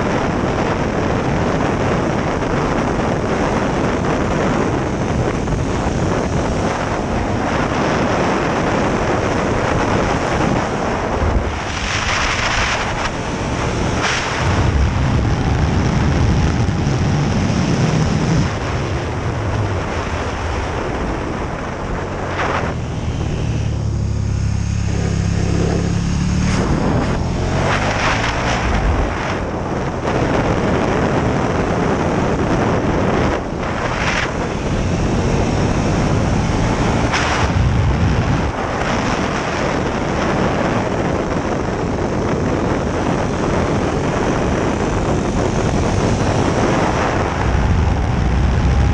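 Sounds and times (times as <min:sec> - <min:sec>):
motorcycle engine: 0:00.0 - 0:48.9
wind noise on microphone: 0:00.0 - 0:48.9.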